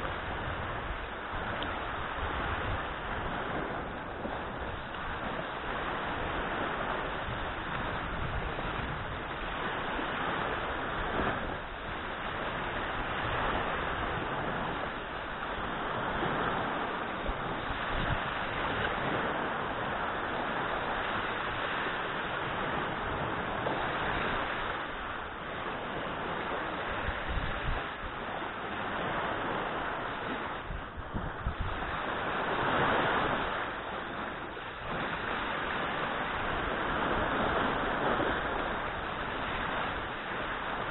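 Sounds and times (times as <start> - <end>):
waves breaking on beach: 0.0 - 40.9
wind buffeting microphone: 0.0 - 40.9.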